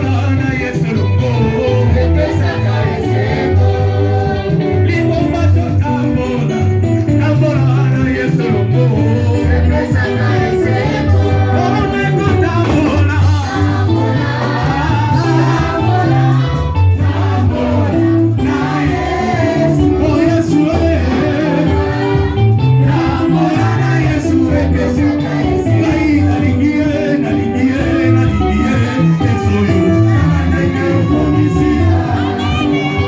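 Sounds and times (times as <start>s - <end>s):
band with bass line: 0.0s - 33.0s
choir singing: 1.2s - 5.0s, 8.2s - 33.0s.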